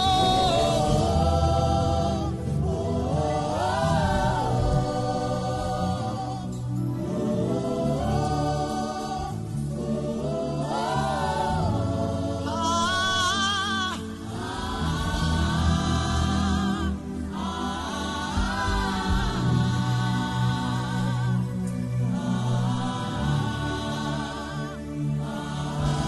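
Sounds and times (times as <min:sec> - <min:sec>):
low backing music: 0:00.0 - 0:26.0.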